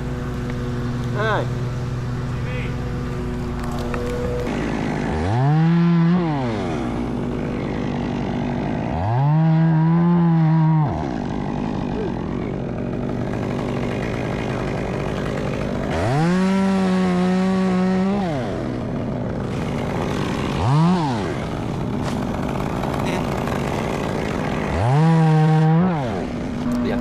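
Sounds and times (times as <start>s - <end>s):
chainsaw revving and idling: 0.0s - 27.0s.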